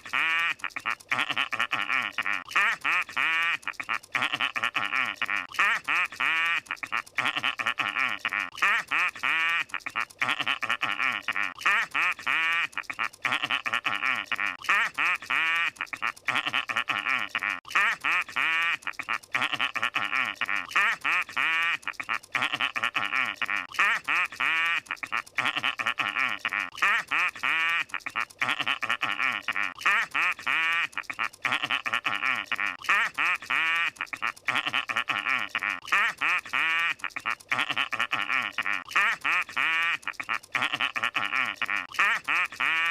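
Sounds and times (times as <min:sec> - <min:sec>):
cartoon character laughing: 0:00.0 - 0:42.9.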